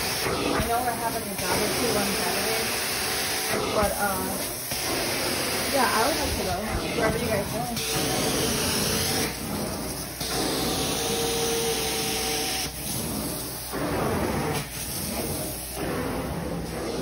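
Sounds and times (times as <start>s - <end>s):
carpet cleaner suction hiss: 0.0s - 17.0s.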